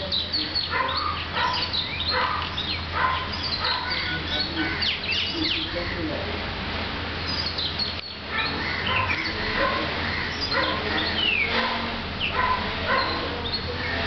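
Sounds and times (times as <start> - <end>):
birds calling and chirping: 0.0 - 14.0.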